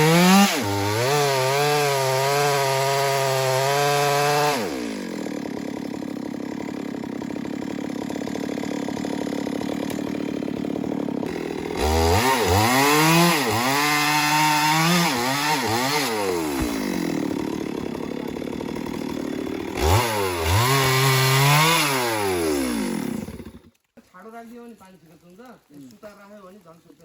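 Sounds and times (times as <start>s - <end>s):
chainsaw revving: 0.0s - 23.8s.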